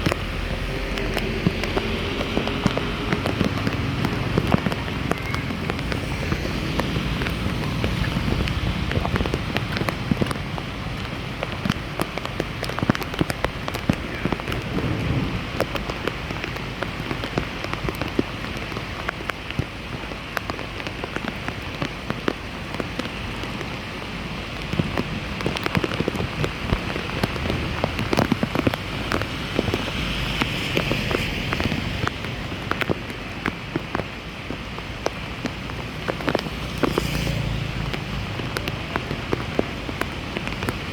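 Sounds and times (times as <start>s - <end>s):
water splashing on flooded street: 0.0s - 40.9s.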